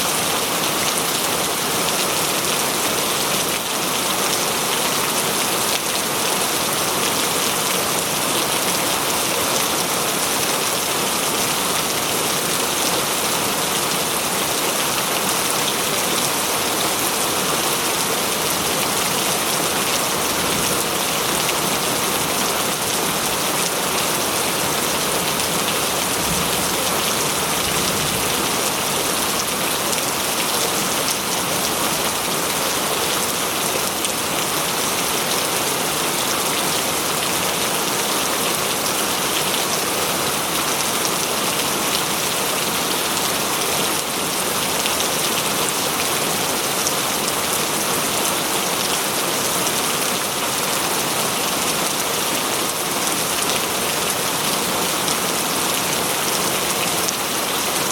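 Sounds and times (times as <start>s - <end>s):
heavy rain on leaves: 0.0s - 57.9s.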